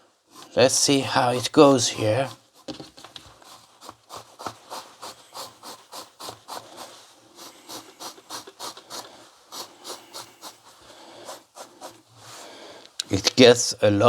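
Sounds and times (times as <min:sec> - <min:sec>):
razor scraping fabric: 0:00.3 - 0:12.6.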